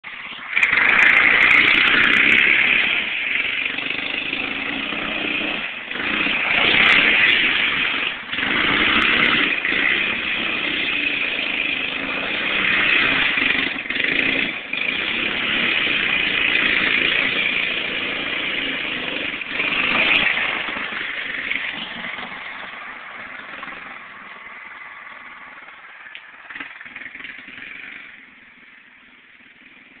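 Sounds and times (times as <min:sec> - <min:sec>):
go-kart engine revving: 0:00.0 - 0:30.0.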